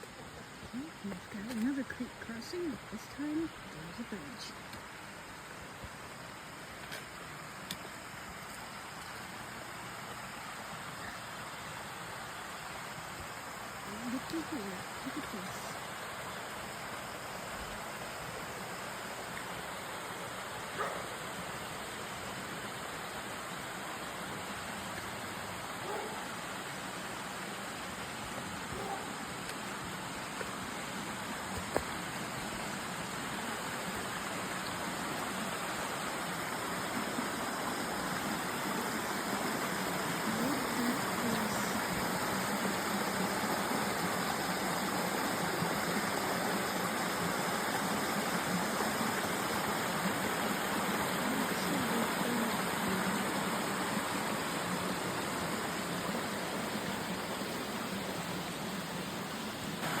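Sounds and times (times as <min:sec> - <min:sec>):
flowing creek water: 0:00.0 - 1:00.0.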